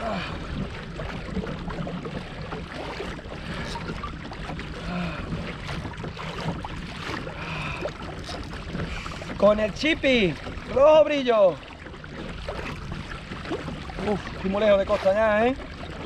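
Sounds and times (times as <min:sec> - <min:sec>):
water splashing along kayak hull: 0:00.0 - 0:16.0.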